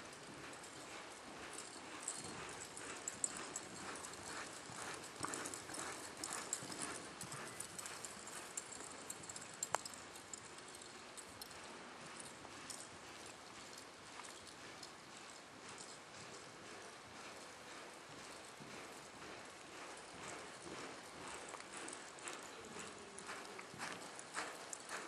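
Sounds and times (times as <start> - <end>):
horse hoofbeats on sand: 0.0 - 25.0.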